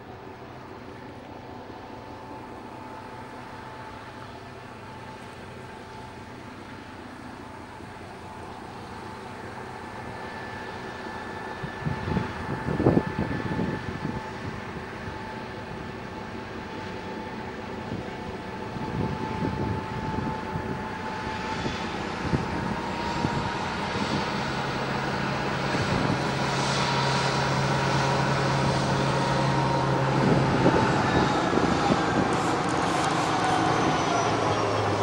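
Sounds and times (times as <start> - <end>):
locomotive engine droning: 0.0 - 35.0.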